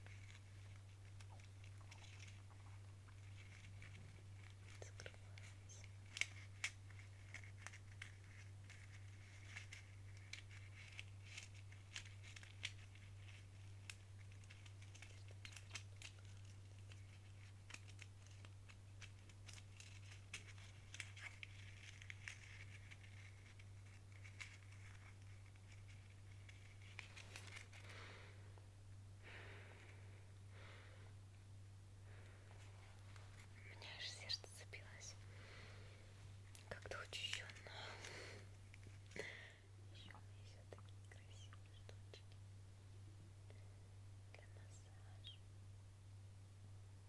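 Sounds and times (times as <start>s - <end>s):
soft clicks and crackles: 0.0s - 31.5s, 32.1s - 42.4s
low steady hum: 0.0s - 47.0s.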